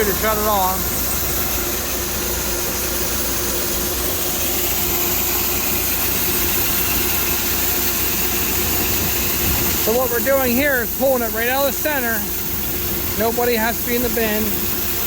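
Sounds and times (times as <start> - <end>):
machinery hiss and hum: 0.0 - 15.0
tractor engine running: 0.0 - 15.0.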